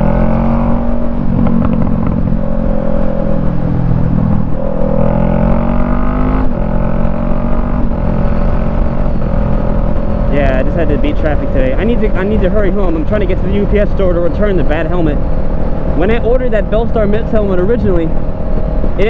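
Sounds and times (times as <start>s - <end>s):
motorcycle engine accelerating: 0.0s - 19.0s
wind rumble on microphone: 0.0s - 19.0s.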